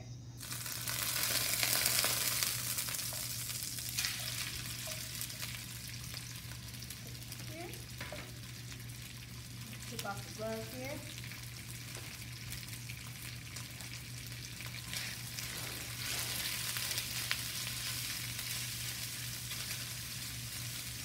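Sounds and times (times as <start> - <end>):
chicken sizzling in oil: 0.4 - 21.0.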